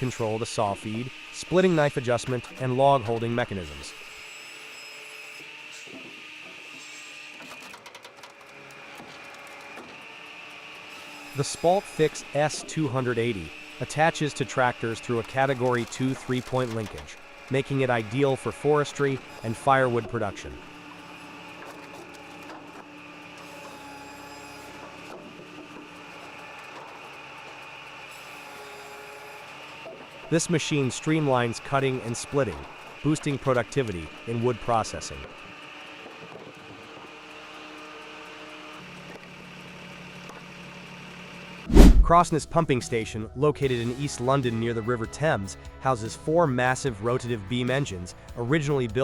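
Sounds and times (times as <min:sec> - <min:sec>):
firewood processor humming: 0:00.0 - 0:42.3.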